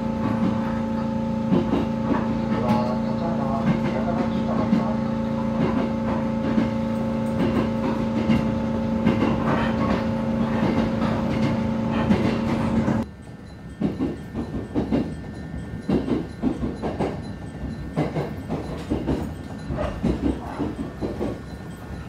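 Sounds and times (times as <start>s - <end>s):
train drive hum: 0.0s - 22.0s
train wheels clattering on rails: 0.1s - 22.0s.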